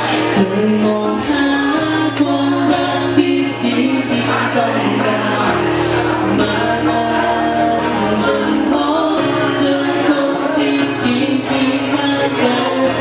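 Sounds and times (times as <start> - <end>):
song with sung vocals: 0.0 - 13.0.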